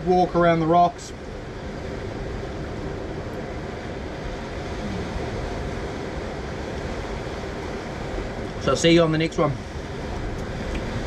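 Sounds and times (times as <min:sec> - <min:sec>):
rushing noise with low rumble: 0:00.0 - 0:11.0.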